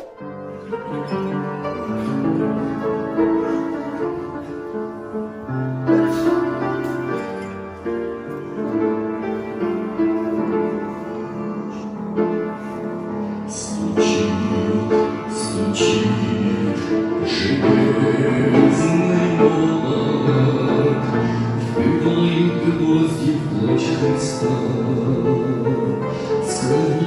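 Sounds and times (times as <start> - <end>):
piano chords and melody: 0.0 - 27.0.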